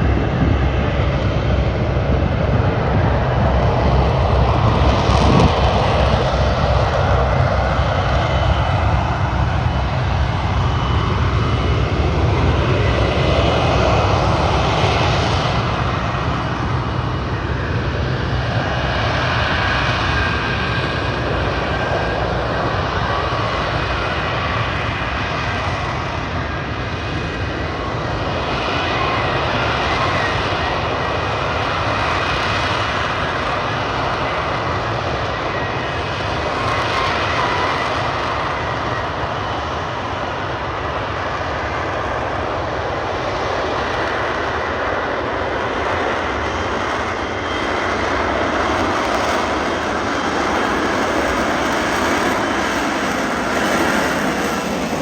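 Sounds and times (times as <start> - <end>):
low-flying aircraft engines: 0.0 - 55.0.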